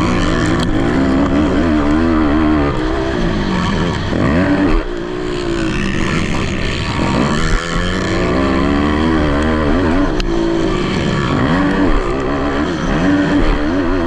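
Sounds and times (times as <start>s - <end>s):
atv engines revving: 0.0s - 14.0s.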